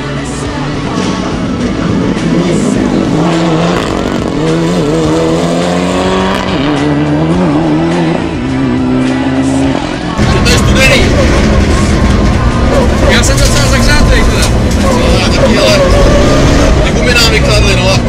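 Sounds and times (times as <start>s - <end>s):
background music: 0.0s - 18.0s
rally car engine revving: 0.0s - 18.0s.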